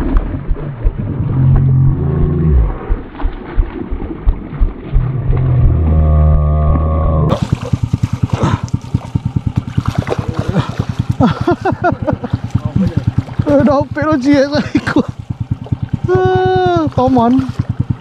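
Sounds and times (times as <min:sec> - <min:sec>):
small boat motor running: 0:00.0 - 0:18.0.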